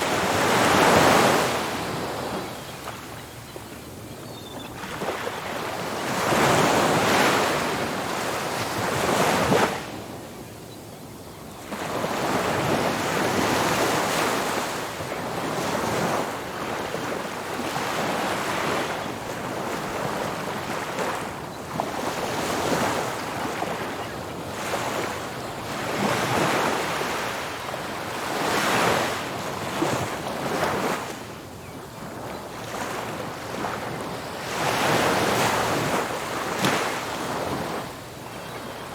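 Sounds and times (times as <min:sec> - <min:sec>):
ocean waves breaking on beach: 0:00.0 - 0:03.4, 0:04.0 - 0:10.4, 0:11.6 - 0:38.9.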